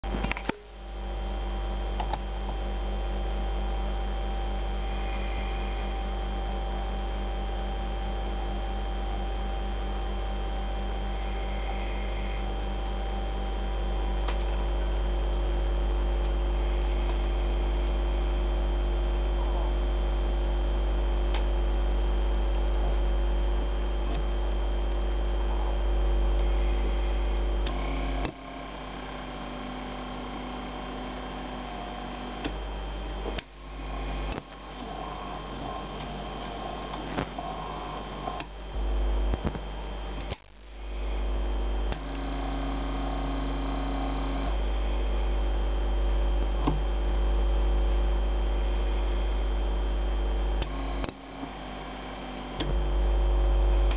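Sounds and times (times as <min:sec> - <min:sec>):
low mains buzz: 0:00.0 - 0:53.9
steady higher electric tones: 0:00.0 - 0:53.9.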